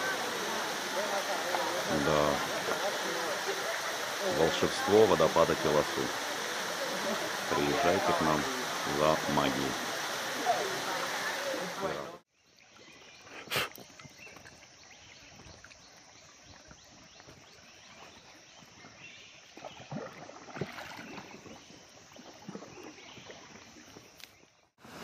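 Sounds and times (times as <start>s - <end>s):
water lapping and trickling: 0.0s - 25.0s.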